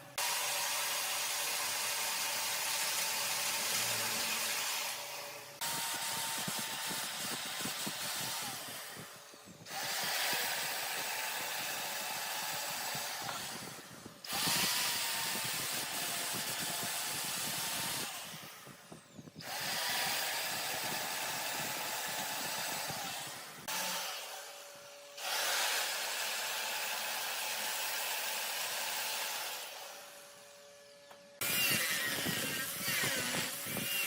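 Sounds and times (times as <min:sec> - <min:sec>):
power tool cutting wood: 0:00.0 - 0:34.0.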